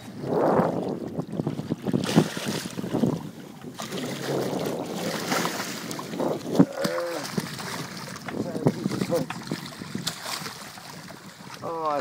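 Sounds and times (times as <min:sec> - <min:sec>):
wind and water rushing: 0:00.0 - 0:12.0
fish thrashing water splashes: 0:01.8 - 0:12.0.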